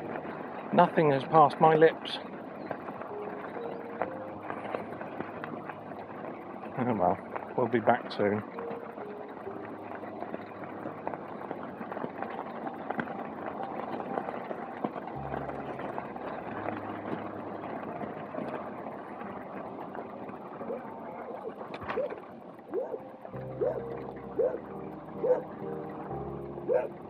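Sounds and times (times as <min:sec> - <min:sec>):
road noise: 0:00.0 - 0:27.0
rushing wind: 0:00.0 - 0:27.0
low hum: 0:01.8 - 0:27.0.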